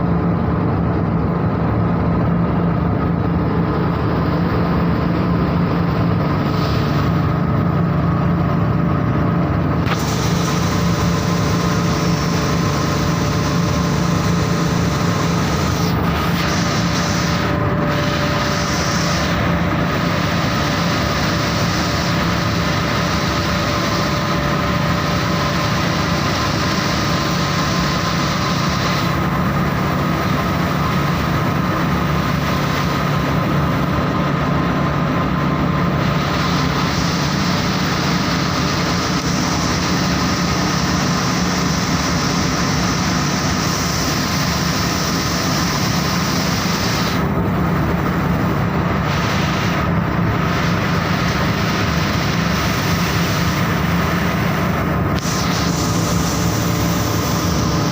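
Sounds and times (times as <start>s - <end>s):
machine humming: 0.0s - 57.9s.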